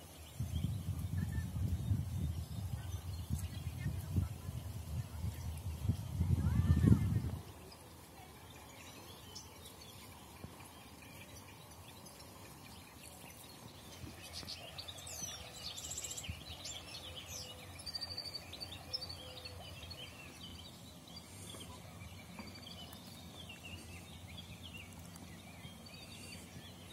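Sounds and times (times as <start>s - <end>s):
low outdoor background noise: 0.0s - 26.9s
small birds chirping: 0.0s - 26.9s.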